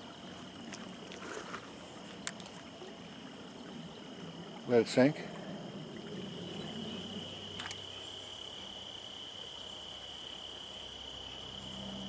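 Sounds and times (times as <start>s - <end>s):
crickets trilling and chirping: 0.0s - 12.0s
stream water: 0.0s - 12.0s.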